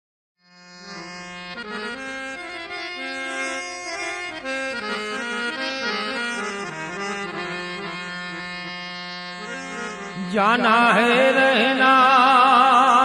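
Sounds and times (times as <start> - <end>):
harmonium melody: 0.4 - 13.0.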